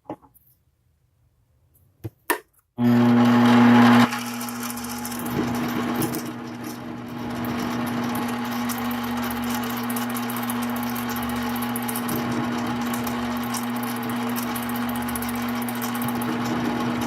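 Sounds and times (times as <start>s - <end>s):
lathe cutting threaded rod: 2.8s - 17.0s
lathe motor humming: 2.8s - 17.0s.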